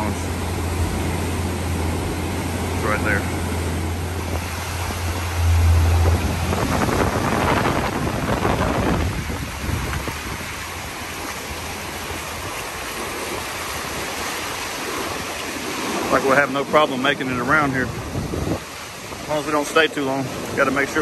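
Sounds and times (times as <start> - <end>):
ocean surf washing on beach: 0.0 - 21.0
wind buffeting microphone: 0.0 - 21.0.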